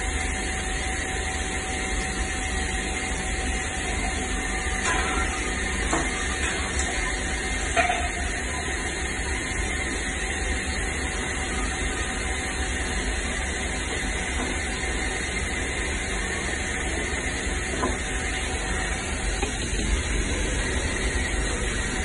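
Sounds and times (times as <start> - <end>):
machinery hum and hiss: 0.0 - 22.0.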